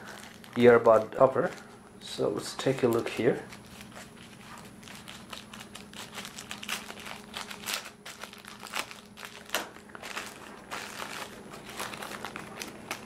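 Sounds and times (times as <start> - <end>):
plastic bag crinkling: 0.0 - 1.8, 2.4 - 13.0.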